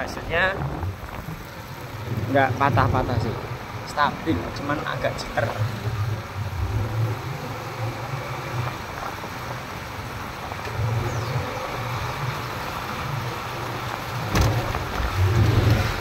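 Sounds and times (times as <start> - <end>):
motorcycle engines rumbling: 0.0 - 16.0.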